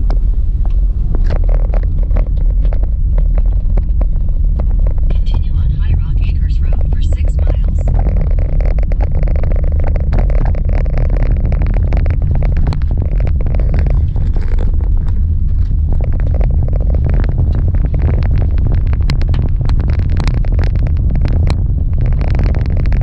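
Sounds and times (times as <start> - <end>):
gravel crackling under tyres: 0.0 - 23.0
tyres and engine rumble: 0.0 - 23.0.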